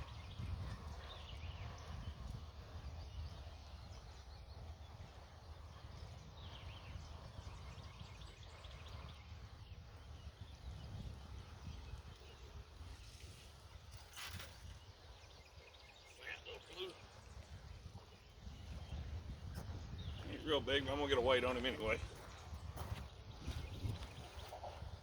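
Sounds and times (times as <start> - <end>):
faint chirping bird calls: 0.0 - 25.0
wind buffeting microphone: 0.0 - 25.0.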